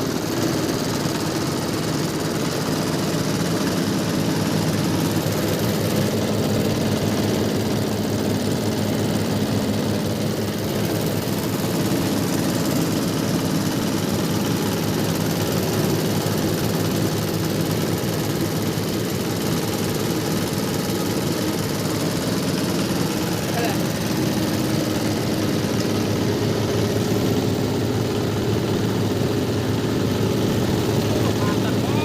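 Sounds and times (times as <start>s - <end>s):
hammer mill grinder running: 0.0s - 32.0s.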